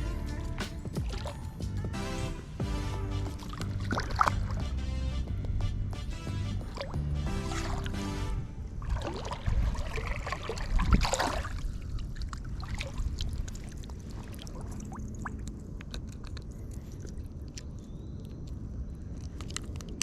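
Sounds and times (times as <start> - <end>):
steady low rumble: 0.0 - 20.0
water splashing and sloshing: 0.0 - 20.0.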